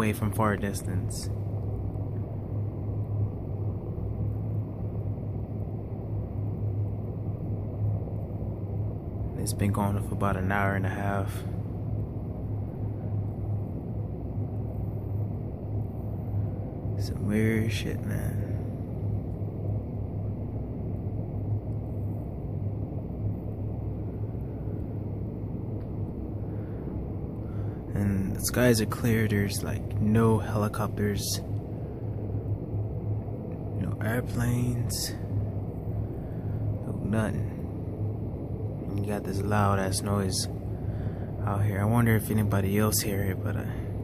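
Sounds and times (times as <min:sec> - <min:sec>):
low hum and rumble: 0:00.0 - 0:44.0.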